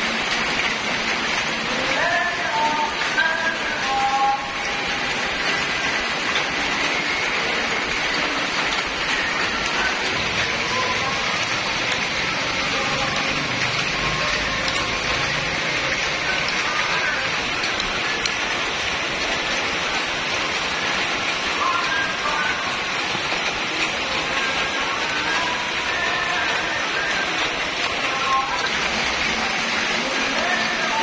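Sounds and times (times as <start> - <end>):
rain on rooftops and grass: 0.0 - 31.0.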